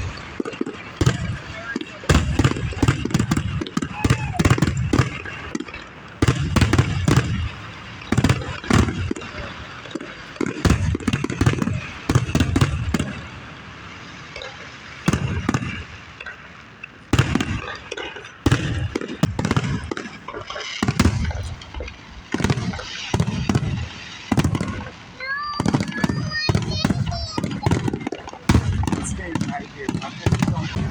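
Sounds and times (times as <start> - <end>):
firework shells booming: 0.0 - 30.9
fireworks crackling: 0.0 - 30.9.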